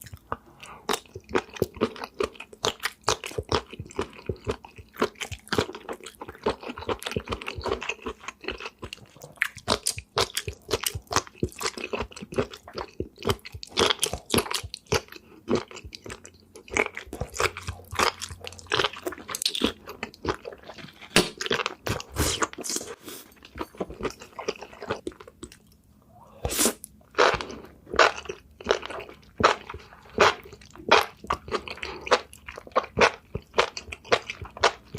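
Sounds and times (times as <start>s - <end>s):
crunching and chewing food: 0.0s - 25.8s, 26.8s - 34.9s.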